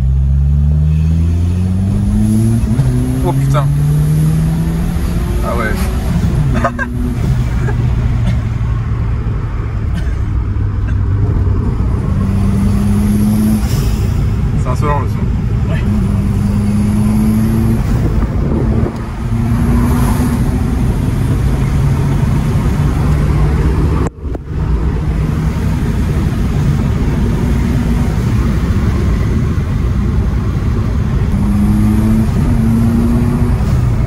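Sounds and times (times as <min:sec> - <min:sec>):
car engine accelerating hard: 0:00.0 - 0:34.0.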